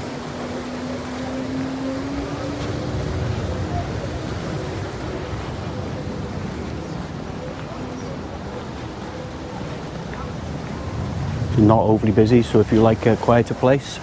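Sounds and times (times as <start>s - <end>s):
vehicle engine hum: 0.0s - 13.7s
low rumble of wind or surf: 0.0s - 14.0s.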